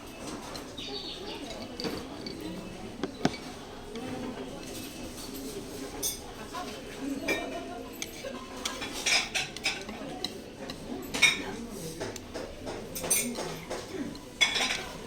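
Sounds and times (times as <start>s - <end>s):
cutlery clinking on dishes: 0.2s - 15.0s.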